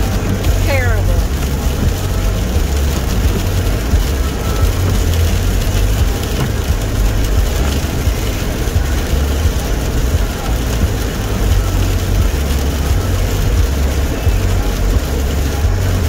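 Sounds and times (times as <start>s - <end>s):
car cabin rumble: 0.0s - 16.0s
tyres hissing on wet road: 0.0s - 16.0s.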